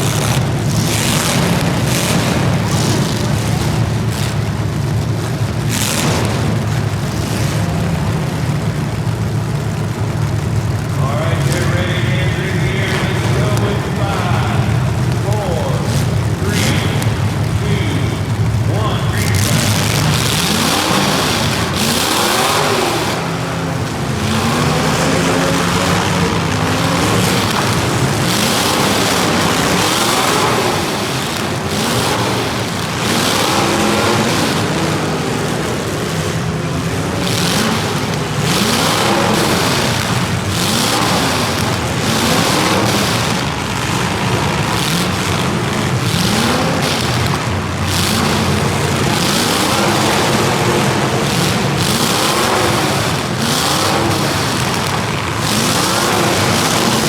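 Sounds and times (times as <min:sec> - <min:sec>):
racing engines revving: 0:00.0 - 0:57.0.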